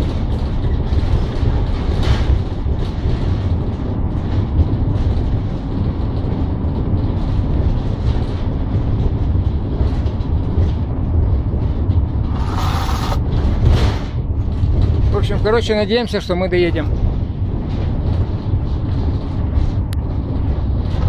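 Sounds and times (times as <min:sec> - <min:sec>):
van engine and road noise: 0:00.0 - 0:21.0.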